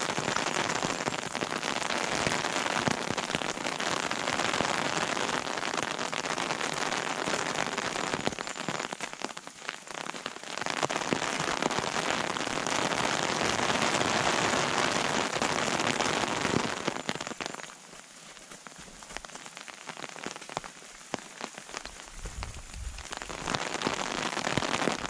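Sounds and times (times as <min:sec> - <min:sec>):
steady rain pattering: 0:00.0 - 0:25.0.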